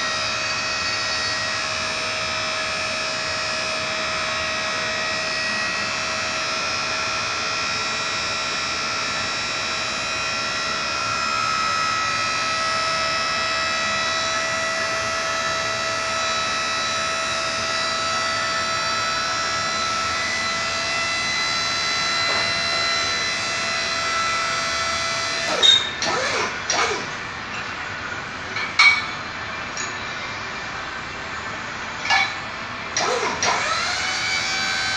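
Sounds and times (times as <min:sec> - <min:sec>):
drill rig machine whine: 0:00.0 - 0:28.6, 0:32.8 - 0:34.9.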